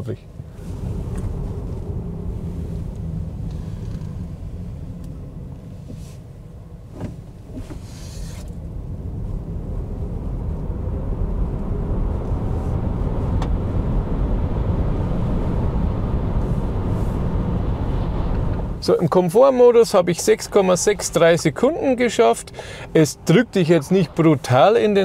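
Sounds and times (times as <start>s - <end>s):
road and tyre rumble: 0.0s - 25.0s.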